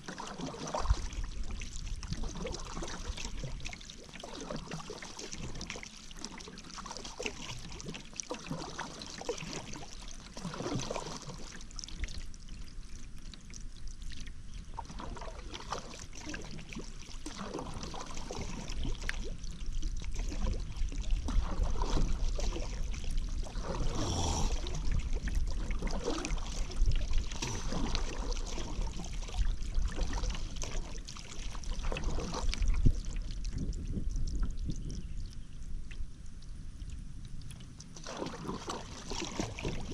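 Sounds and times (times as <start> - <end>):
paddle strokes in water: 0.0 - 36.1, 36.8 - 39.9.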